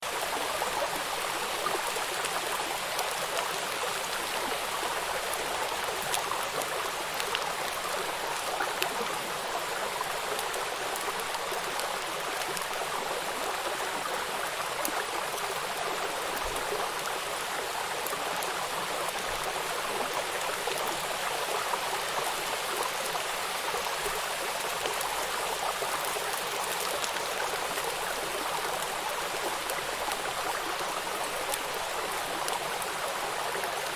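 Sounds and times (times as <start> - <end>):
river flowing: 0.0 - 33.9
raindrops pattering on water: 0.1 - 33.9.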